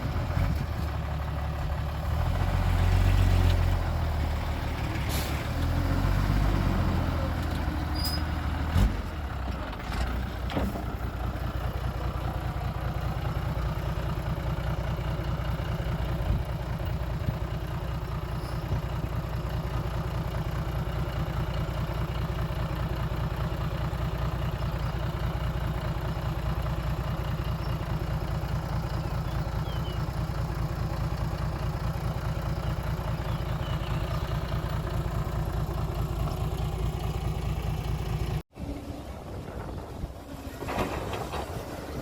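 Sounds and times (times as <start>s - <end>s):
heavy diesel engine rumbling: 0.0s - 42.0s.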